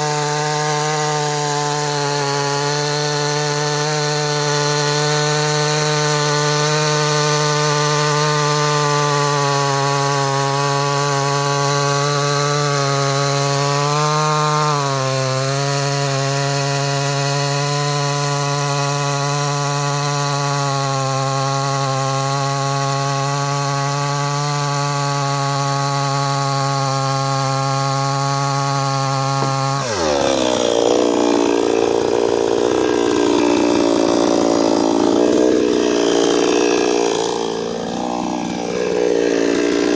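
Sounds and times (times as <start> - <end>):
chainsaw running and cutting wood: 0.0 - 39.9.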